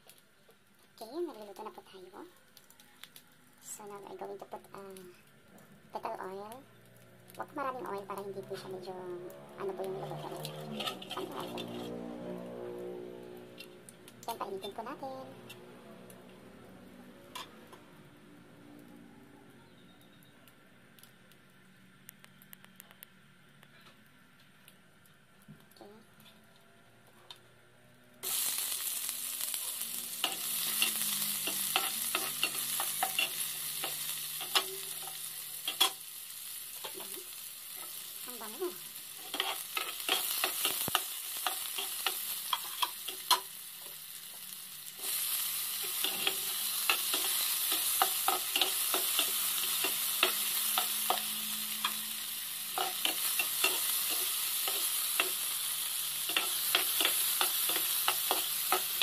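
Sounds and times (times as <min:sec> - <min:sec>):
onions sizzling in oil: 0:00.0 - 0:19.1, 0:28.2 - 0:59.0.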